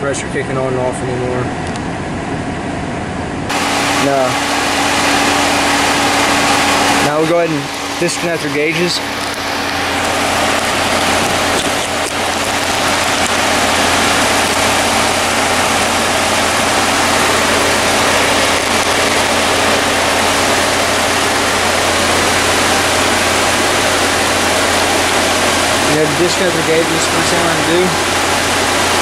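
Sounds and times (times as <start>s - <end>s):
air conditioning rushing: 0.0s - 29.0s
car engine idling: 0.0s - 29.0s.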